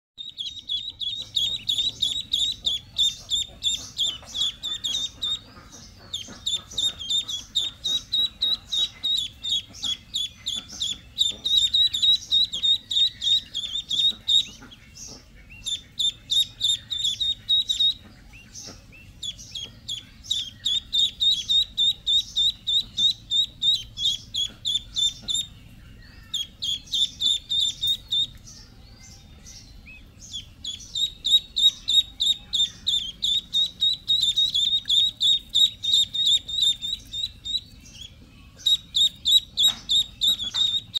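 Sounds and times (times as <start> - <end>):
duckling peeping: 0.2 - 40.9.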